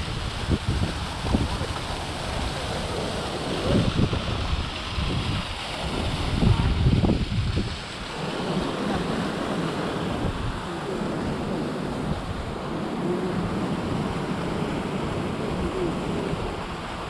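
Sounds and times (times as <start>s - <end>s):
river rushing: 0.0s - 17.0s
wind buffeting microphone: 0.0s - 17.0s.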